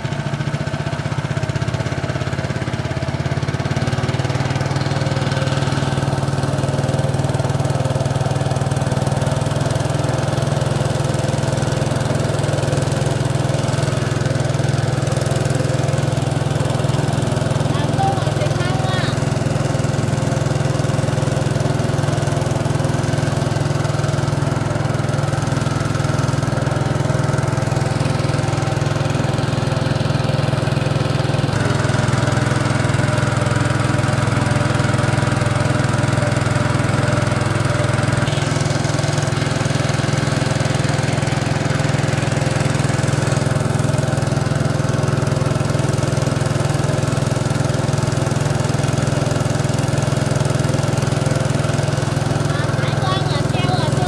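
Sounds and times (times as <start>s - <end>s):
small boat engine running: 0.0s - 54.0s.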